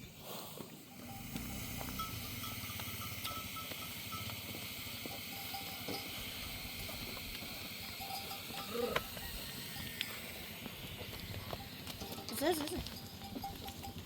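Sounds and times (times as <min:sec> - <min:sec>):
sheep bells clinking: 0:00.8 - 0:14.0.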